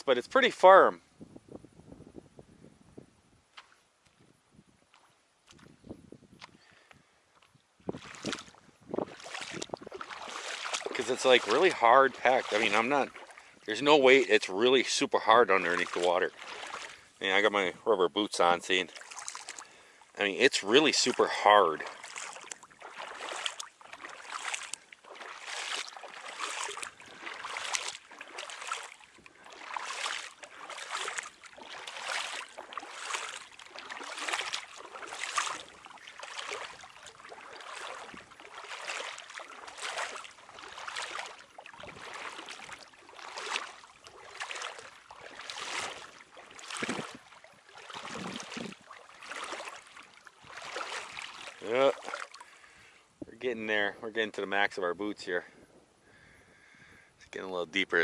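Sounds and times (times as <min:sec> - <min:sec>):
boots wading through water: 0:03.5 - 0:54.8.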